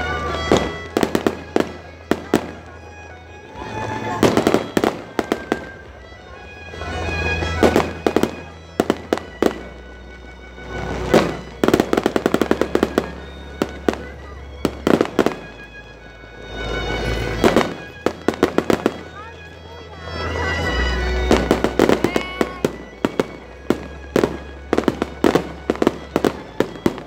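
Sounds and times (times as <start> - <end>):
fireworks rushing and banging: 0.0 - 6.2, 6.8 - 27.0
fireworks crackling: 0.0 - 27.0.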